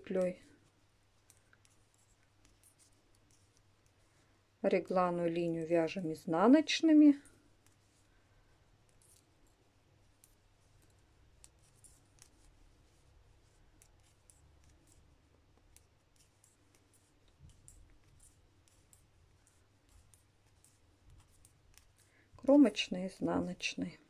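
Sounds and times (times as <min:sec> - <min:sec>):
knitting needles clicking: 0:00.0 - 0:04.2, 0:06.8 - 0:24.0.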